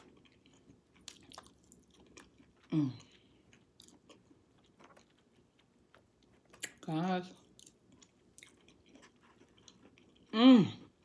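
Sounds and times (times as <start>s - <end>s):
mouth chewing food: 0.0s - 11.0s.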